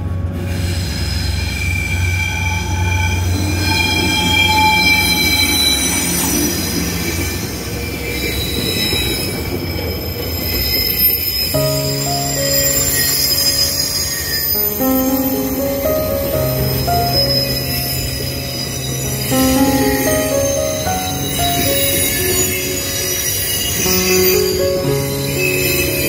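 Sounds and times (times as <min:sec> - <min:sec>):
train low rumble: 0:00.0 - 0:10.5, 0:11.6 - 0:26.0
freight train wheels squealing: 0:00.2 - 0:26.0.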